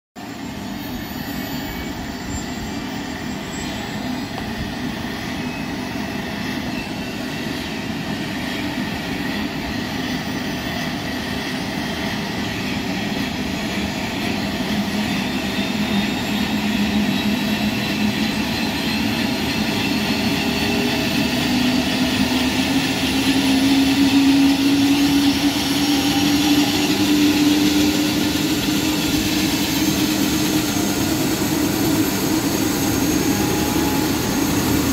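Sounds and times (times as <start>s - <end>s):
helicopter turbine whine and rotor: 0.2s - 34.9s.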